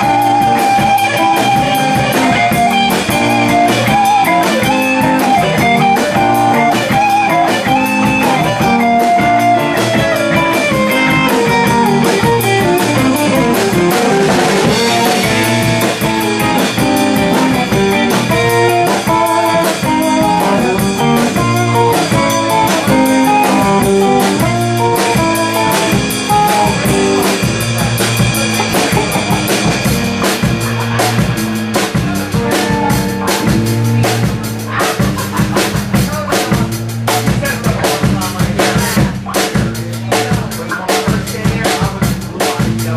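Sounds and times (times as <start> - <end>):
drum kit: 0.0 - 42.9
electric bass: 0.0 - 42.9
electric guitar lines: 0.0 - 42.9.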